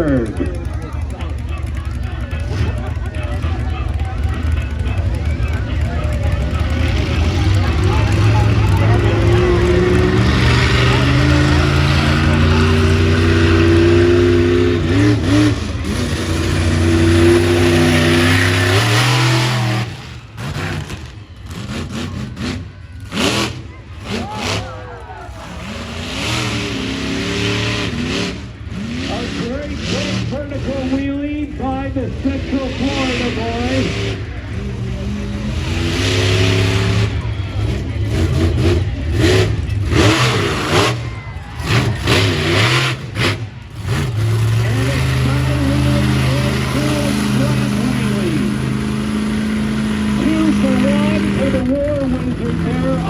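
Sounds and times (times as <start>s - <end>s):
truck engine revving high: 0.0s - 53.0s.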